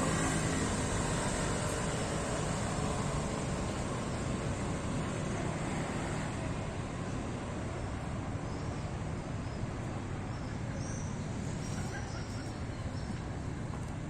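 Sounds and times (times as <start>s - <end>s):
outdoor rumble with hiss: 0.0s - 14.0s.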